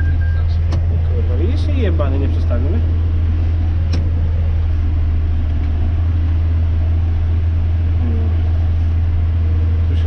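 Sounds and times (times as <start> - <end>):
tractor engine droning in cab: 0.0 - 10.0.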